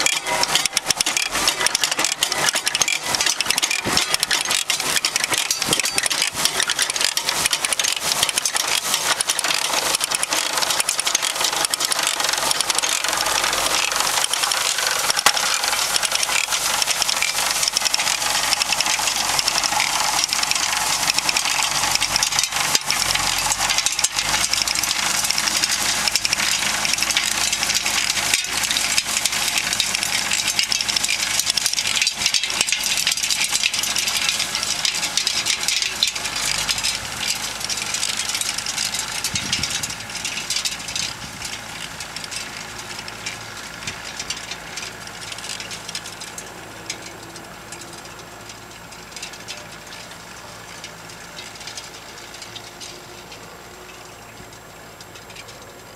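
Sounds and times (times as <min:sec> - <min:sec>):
spreader chains clattering: 0:00.0 - 0:55.9
tractor engine idling: 0:00.0 - 0:55.9.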